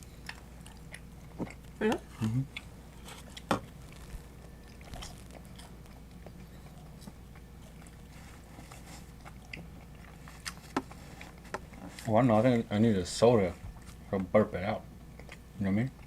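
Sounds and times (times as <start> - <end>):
person chewing pizza: 0.0 - 12.6, 13.4 - 16.0.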